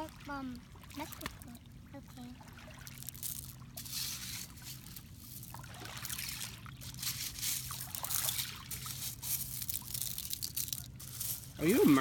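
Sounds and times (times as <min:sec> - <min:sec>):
shallow water trickling: 0:00.0 - 0:12.0
steady low hum: 0:00.0 - 0:12.0.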